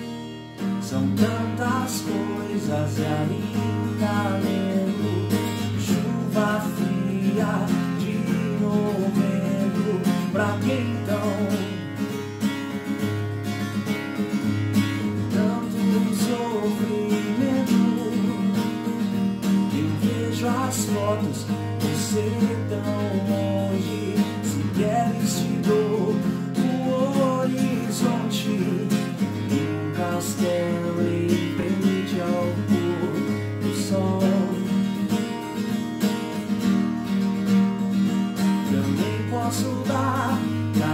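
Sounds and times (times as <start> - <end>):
acoustic guitar strumming: 0.0 - 40.9.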